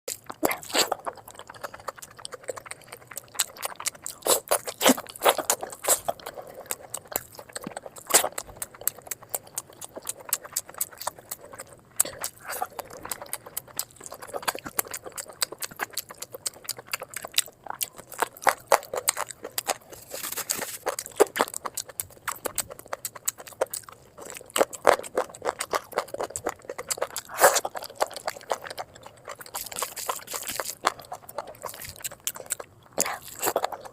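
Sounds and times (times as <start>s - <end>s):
chewing with crackly clicks: 0.1s - 33.9s
crunchy bites: 0.1s - 33.9s.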